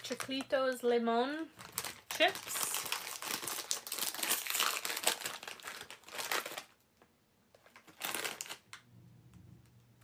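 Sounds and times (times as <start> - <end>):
plastic chip bag crinkling: 0.0 - 8.8.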